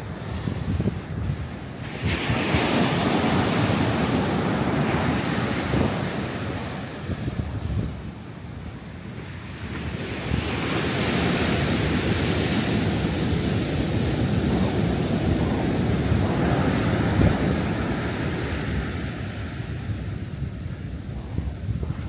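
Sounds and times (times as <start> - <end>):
ocean wave breaking on sand: 0.0 - 7.5, 9.2 - 22.0.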